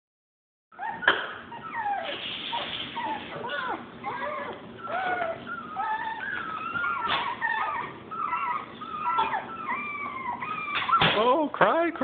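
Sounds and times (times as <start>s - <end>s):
puppies whining and crying: 0.7s - 11.4s.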